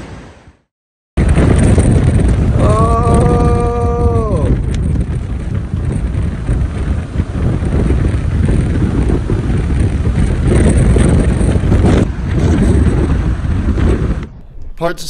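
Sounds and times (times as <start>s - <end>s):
strong wind buffeting microphone: 1.2s - 15.0s.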